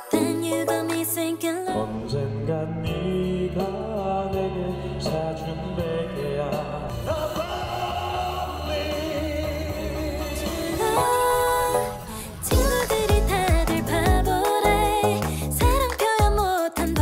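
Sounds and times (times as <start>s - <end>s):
person singing into a microphone: 0.0s - 17.0s.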